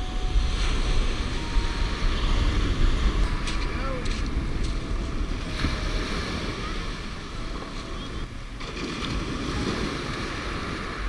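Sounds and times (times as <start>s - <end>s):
wind rumbling on microphone: 0.0s - 11.0s
surf washing on gravel beach: 0.2s - 11.0s.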